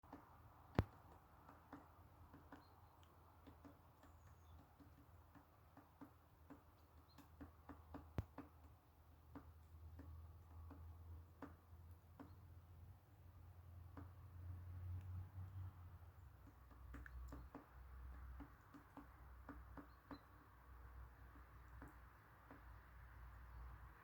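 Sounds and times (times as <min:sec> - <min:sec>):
woodpecker tapping on bark: 0:00.0 - 0:23.9.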